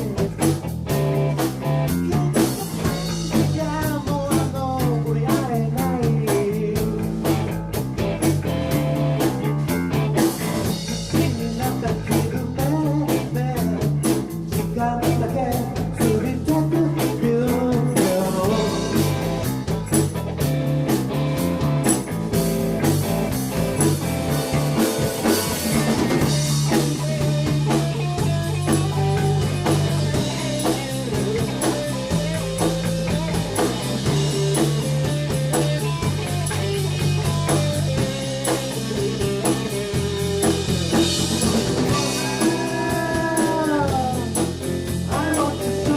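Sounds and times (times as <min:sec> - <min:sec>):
bass line: 0:00.0 - 0:45.9
drum kit: 0:00.0 - 0:45.9
electric guitar: 0:00.0 - 0:45.9.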